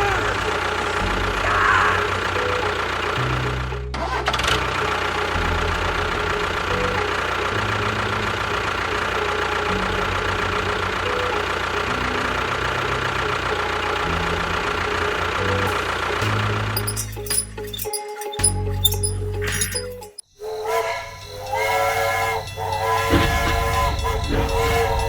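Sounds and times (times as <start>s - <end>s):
small engine knocking rumble: 0.0s - 17.6s, 21.0s - 25.0s
background music with bass: 0.0s - 20.2s, 21.0s - 25.0s.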